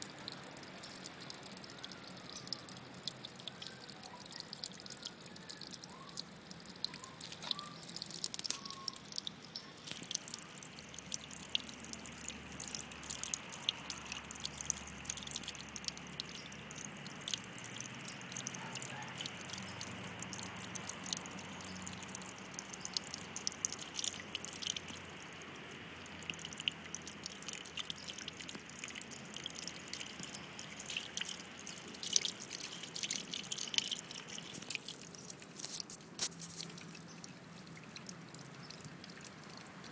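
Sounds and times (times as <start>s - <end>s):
small water splashes: 0.0s - 39.9s
water dripping and trickling: 0.0s - 39.9s.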